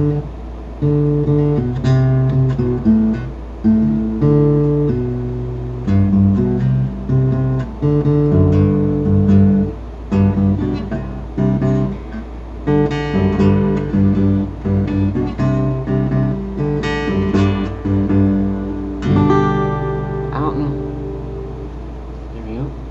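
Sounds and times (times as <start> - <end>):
acoustic guitar strumming chords: 0.0 - 22.3.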